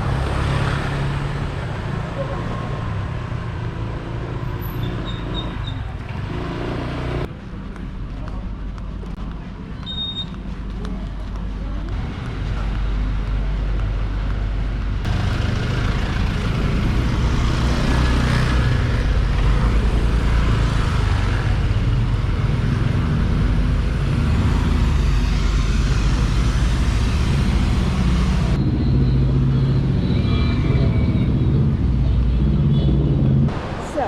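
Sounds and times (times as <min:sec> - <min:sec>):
traffic engines rumbling: 0:00.0 - 0:34.0.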